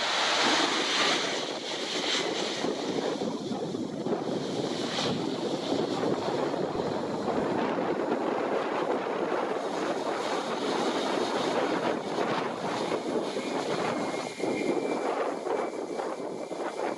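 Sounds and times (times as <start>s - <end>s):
jet engines rushing: 0.0s - 16.9s
wind buffeting microphone: 0.0s - 16.9s.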